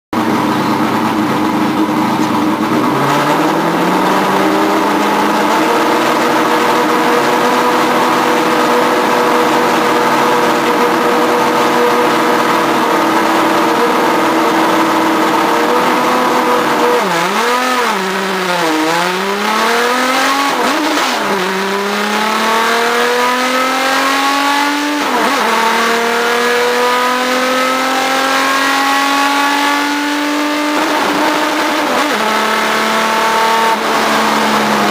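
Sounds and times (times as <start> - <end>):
race car engine revving: 0.2 - 34.9.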